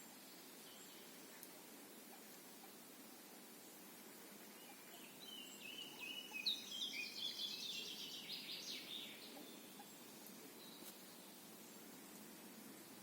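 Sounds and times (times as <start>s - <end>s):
faint background hiss: 0.0s - 13.0s
songbird singing: 0.0s - 13.0s.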